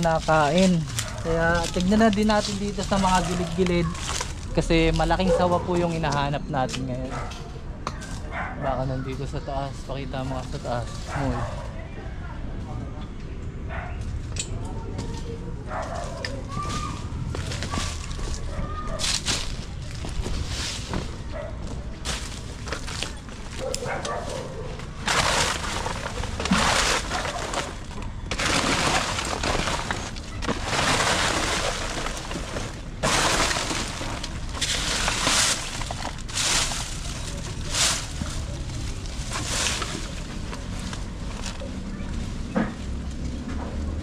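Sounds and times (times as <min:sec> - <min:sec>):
dry leaves rustling and crackling: 0:00.0 - 0:07.5, 0:08.1 - 0:12.0, 0:15.0 - 0:44.0.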